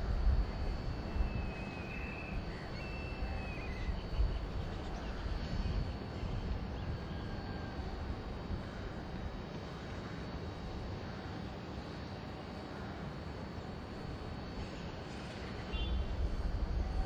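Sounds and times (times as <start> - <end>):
faint high steady tone: 0.0 - 17.0
low outdoor rumble: 0.0 - 17.0.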